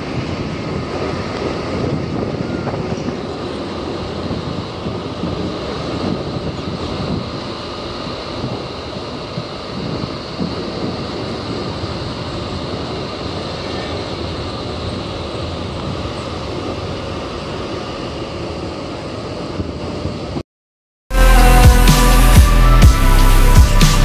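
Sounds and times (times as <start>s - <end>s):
train rumbling on track: 0.0s - 20.4s
wind noise: 0.0s - 20.4s.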